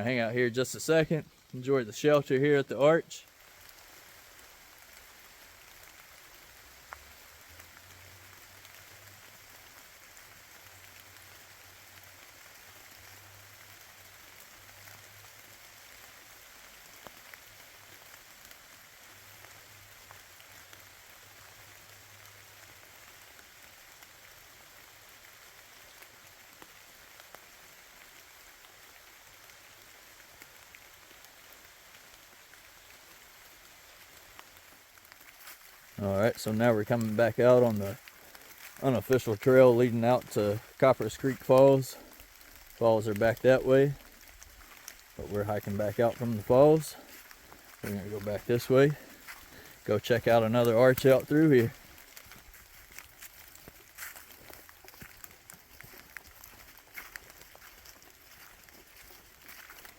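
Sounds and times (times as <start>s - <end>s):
light rain hiss: 0.0s - 59.9s
water drips: 3.3s - 59.9s.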